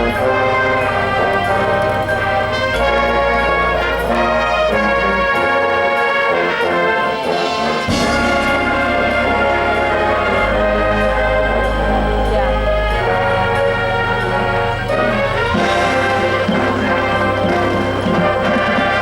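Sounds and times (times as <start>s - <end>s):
marching band playing: 0.0s - 19.0s.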